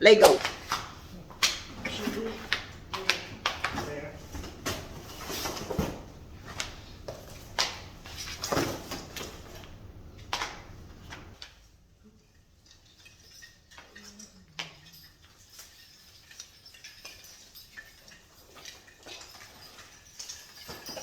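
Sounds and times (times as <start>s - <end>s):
household items clicking and knocking: 0.2s - 11.6s, 12.3s - 21.0s.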